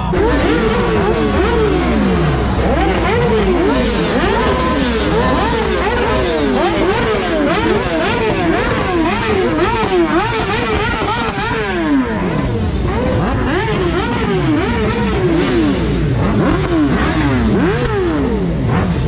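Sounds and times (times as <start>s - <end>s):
engines revving: 0.0s - 19.0s
rumbling low engine idle: 0.0s - 19.0s.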